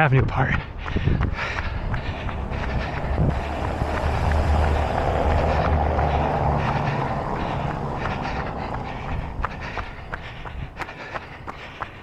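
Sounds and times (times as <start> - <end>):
heavy vehicle engine hum: 0.5 - 12.0.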